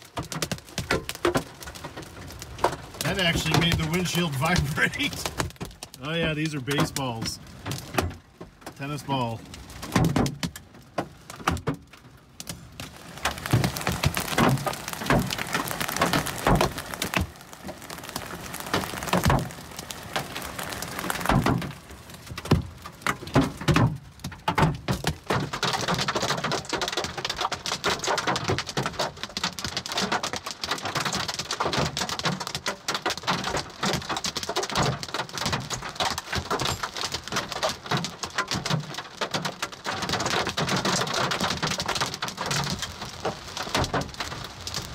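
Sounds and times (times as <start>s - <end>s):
hail striking car roof: 0.0s - 44.9s
rain on car: 0.0s - 44.9s.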